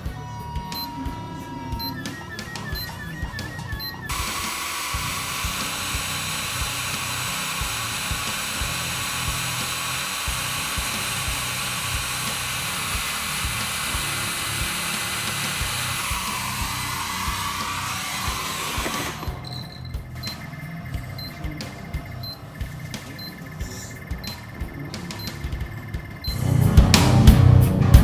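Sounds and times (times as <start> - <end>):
high whistling tones: 0.0 - 26.6
background music beat: 0.0 - 28.0
power supply fan rushing: 1.6 - 27.6.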